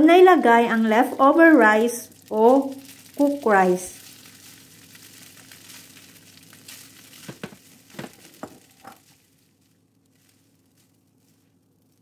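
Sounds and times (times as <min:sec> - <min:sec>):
rice sizzling in oil: 0:00.8 - 0:12.0.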